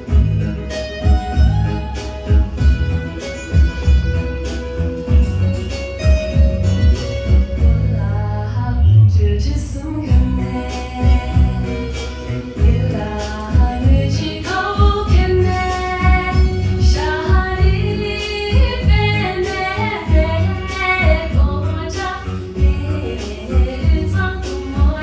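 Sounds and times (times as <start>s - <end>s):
backing track with low beat: 0.0s - 25.0s.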